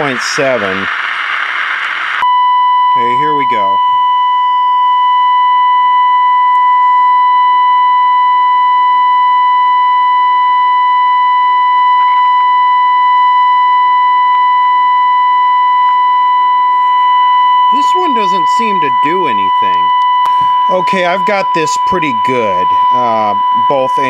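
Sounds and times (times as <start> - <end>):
steady radio test tone: 0.0 - 24.0.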